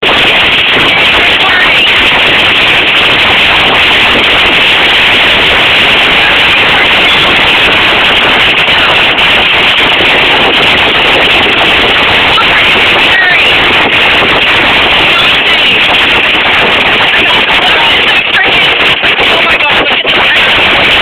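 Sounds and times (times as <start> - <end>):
hail clattering: 0.0 - 21.0.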